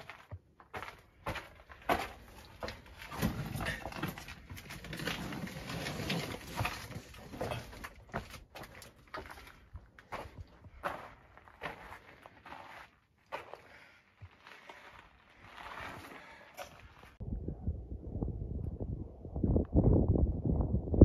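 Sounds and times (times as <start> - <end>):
footsteps on a trail: 0.0 - 17.2.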